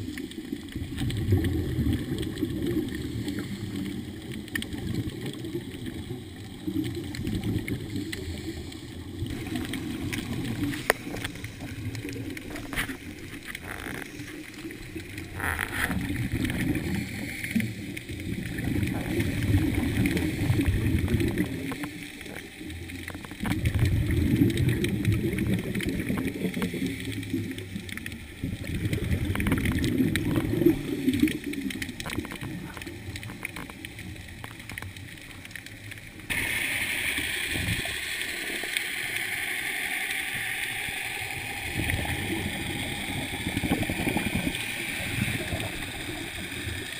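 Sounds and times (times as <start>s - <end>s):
underwater bubbles gurgling: 0.0s - 46.9s.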